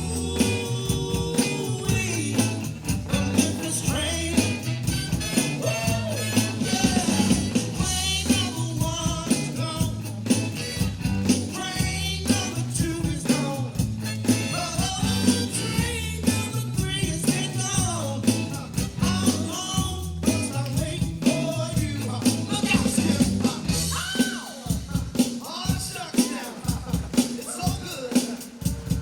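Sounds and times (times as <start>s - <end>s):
bass: 0.0s - 29.0s
driving beat: 0.0s - 29.0s
guitar: 0.0s - 29.0s
man singing: 0.0s - 29.0s.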